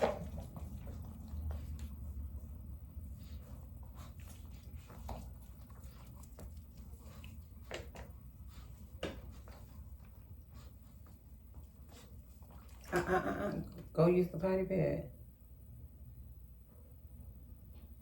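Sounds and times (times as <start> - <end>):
low room rumble: 0.0 - 18.0.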